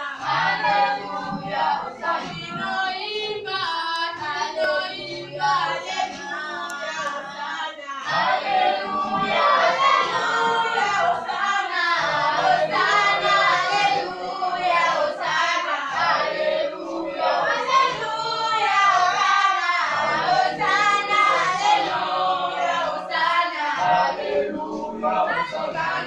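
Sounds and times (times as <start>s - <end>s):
group singing a hymn: 0.0s - 26.0s.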